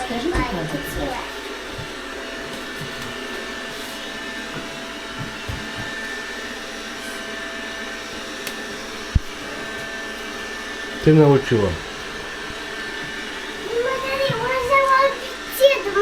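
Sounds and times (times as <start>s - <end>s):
robot vacuum whirring hum: 0.0s - 16.0s.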